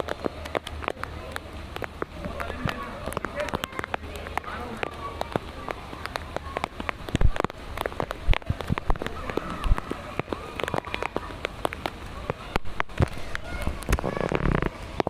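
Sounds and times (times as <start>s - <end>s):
heavy drips thudding: 0.0s - 15.0s
rain pattering on hard surface: 0.0s - 15.0s.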